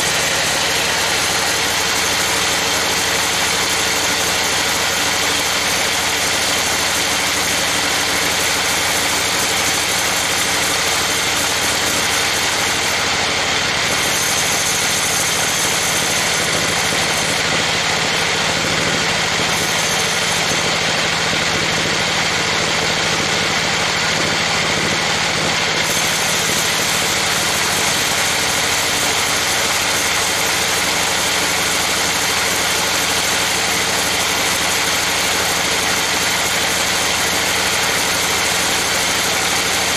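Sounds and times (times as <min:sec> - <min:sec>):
band saw cutting a log: 0:00.0 - 0:39.9.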